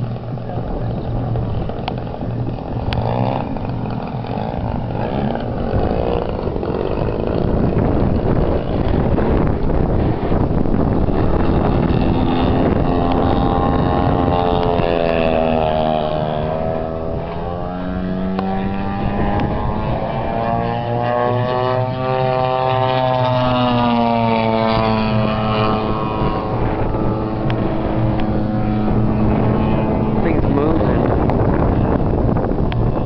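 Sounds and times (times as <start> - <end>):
model plane engine and propeller: 0.0 - 33.0.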